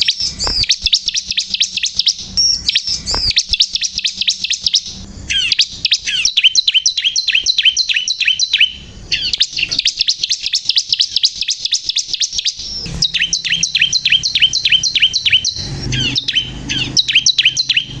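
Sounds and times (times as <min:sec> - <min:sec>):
bird singing rapid chip notes: 0:00.0 - 0:18.0.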